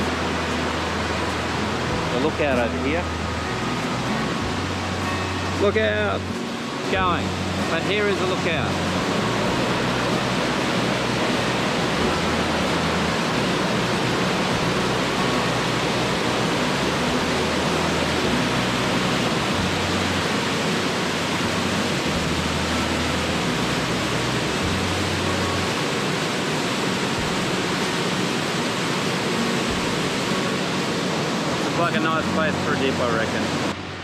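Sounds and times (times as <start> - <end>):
waterfall and rapids rushing: 0.0 - 34.0.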